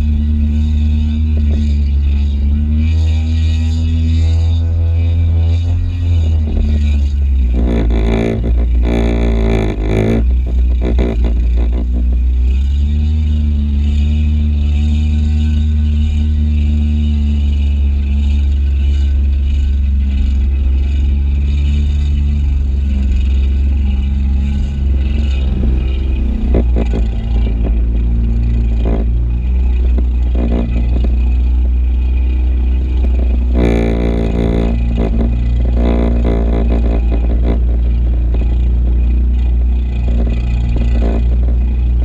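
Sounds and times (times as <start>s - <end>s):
jet ski engine droning: 0.0s - 42.0s.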